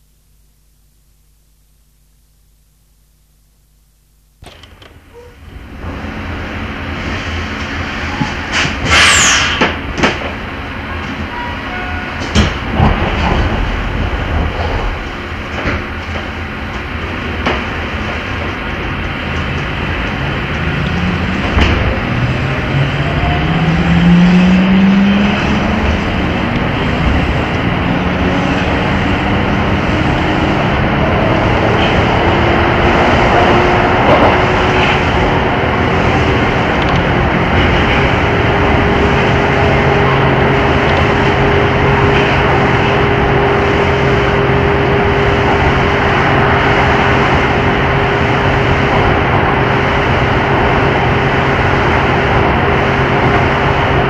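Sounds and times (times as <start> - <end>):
train running noise: 4.5 - 54.0.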